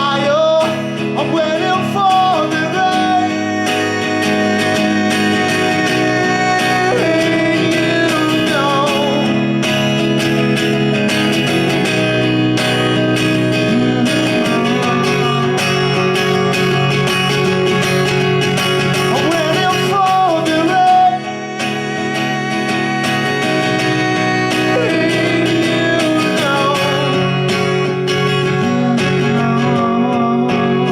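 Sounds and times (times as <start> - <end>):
man singing: 0.0 - 30.9
strummed guitar: 0.0 - 30.9.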